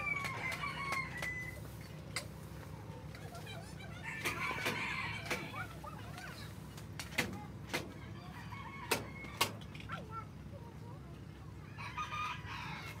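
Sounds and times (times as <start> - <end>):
chickens clucking and calling: 0.0 - 13.0.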